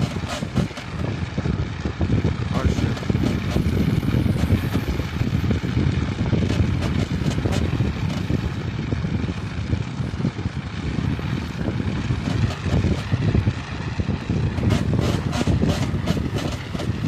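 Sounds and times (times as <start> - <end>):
car suspension creaking and knocking: 0.0 - 8.6, 11.0 - 17.0
car rumbling on road: 0.0 - 17.0.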